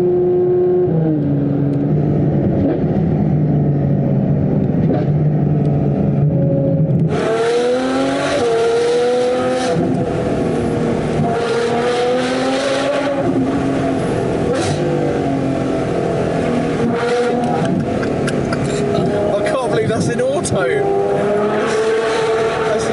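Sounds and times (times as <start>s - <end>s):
loud sports car engine revving: 0.0s - 22.9s.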